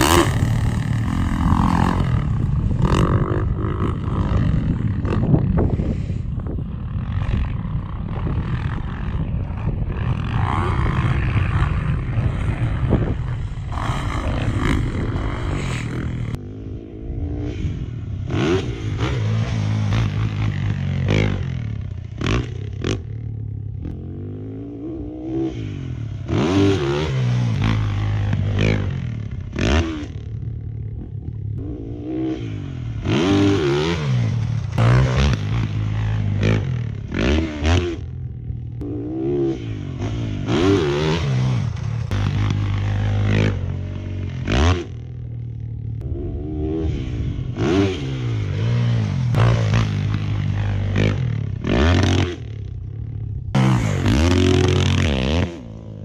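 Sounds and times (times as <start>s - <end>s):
dirt bike engine revving: 0.0s - 6.2s, 6.9s - 56.0s.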